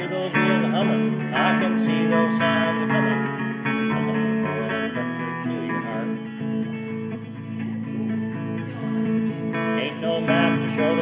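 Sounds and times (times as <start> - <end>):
country electric guitar: 0.0 - 11.0.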